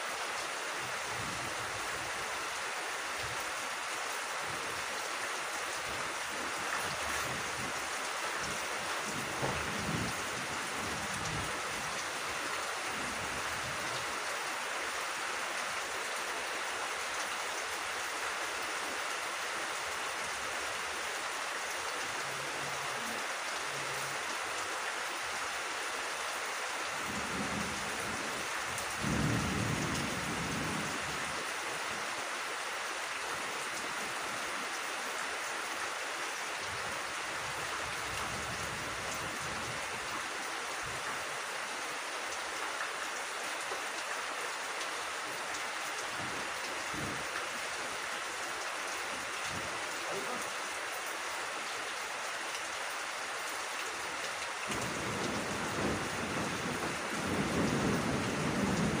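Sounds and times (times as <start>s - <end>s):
rain on vegetation: 0.0s - 59.0s.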